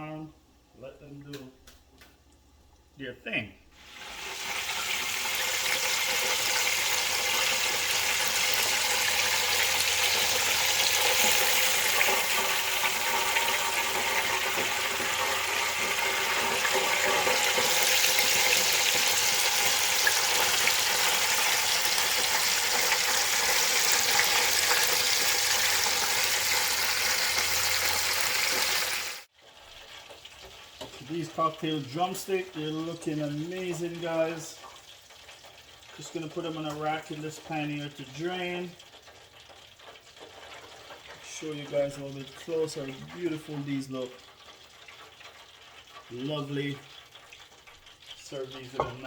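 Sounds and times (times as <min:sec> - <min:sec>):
chicken deep-frying in oil: 0:03.8 - 0:49.0.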